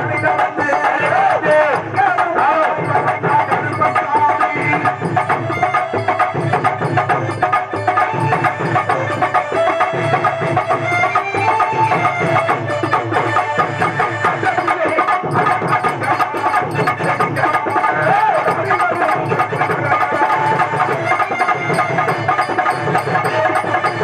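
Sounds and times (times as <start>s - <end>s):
fast dense drumming: 0.0s - 24.0s
wind instrument melody: 0.0s - 24.0s.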